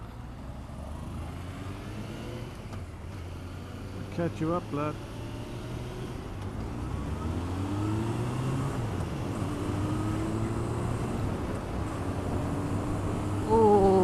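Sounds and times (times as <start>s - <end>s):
road and wind rush: 0.0s - 14.0s
motorcycle engine accelerating: 0.8s - 14.0s.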